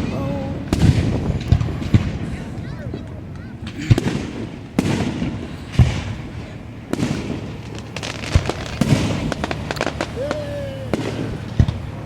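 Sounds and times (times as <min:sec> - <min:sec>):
fireworks booming: 0:00.0 - 0:12.0
fireworks crackling: 0:00.0 - 0:12.0.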